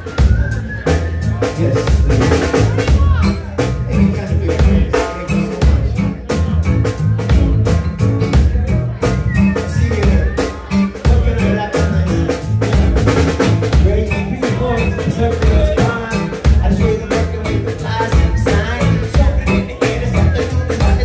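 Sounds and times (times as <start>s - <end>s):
drum kit beat: 0.0s - 21.0s
electric bass: 0.0s - 21.0s.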